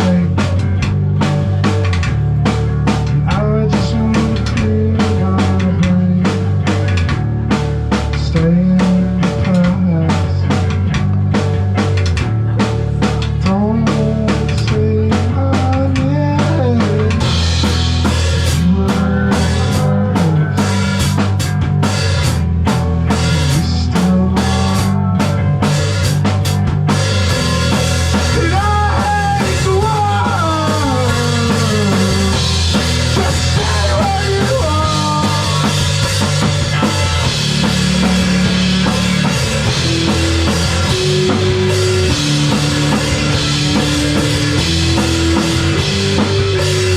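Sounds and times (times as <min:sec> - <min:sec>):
drum kit: 0:00.0 - 0:46.9
guitar: 0:00.0 - 0:46.9
live rock band playing: 0:00.0 - 0:46.9.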